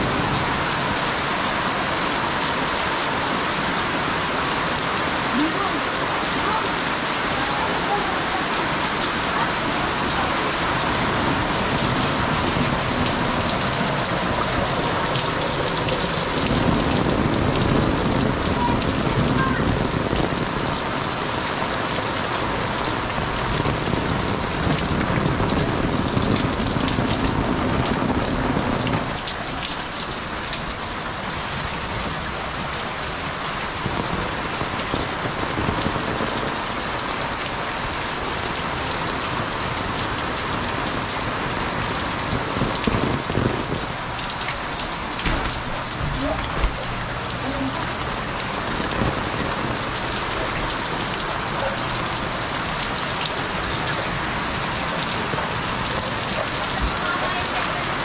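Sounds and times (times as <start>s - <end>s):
heavy rain splashing on concrete: 0.0s - 58.0s.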